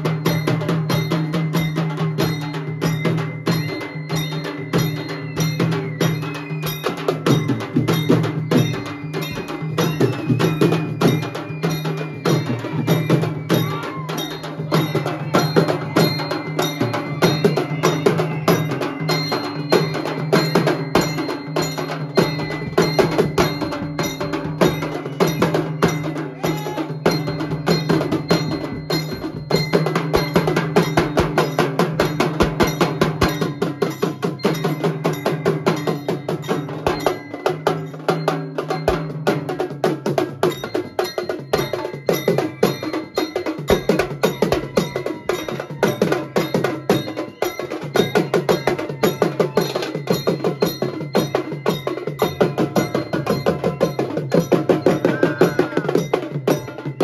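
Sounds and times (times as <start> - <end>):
fast drumming: 0.0 - 57.0.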